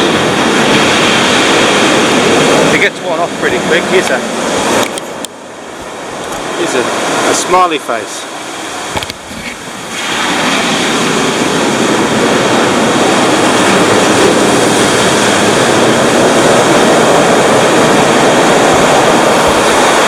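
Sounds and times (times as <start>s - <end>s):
ocean surf rushing over rocks: 0.0s - 20.0s.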